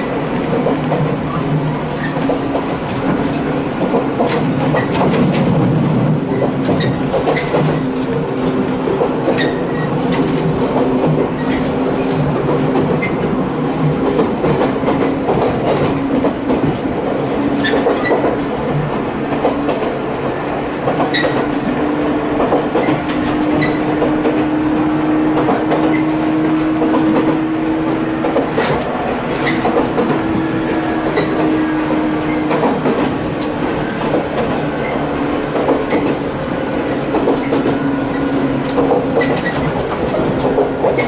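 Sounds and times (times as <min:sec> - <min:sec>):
train running rumble: 0:00.0 - 0:41.0
wheels clicking over rail joints: 0:00.0 - 0:41.0.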